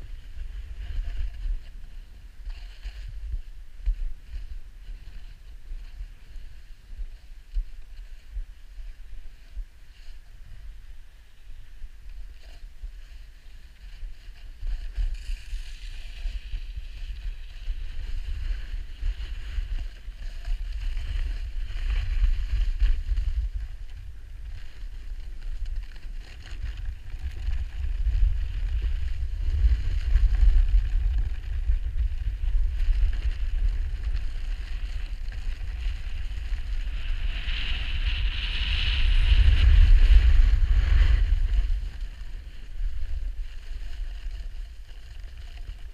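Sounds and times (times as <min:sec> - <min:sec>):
hiss of sliding over snow: 0:00.0 - 0:45.9
wind buffeting microphone: 0:00.0 - 0:45.9.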